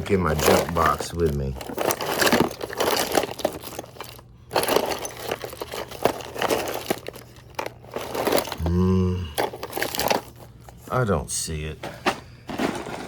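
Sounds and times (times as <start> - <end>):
loose items clattering in box: 0.0 - 8.7, 9.3 - 10.5, 11.8 - 13.0.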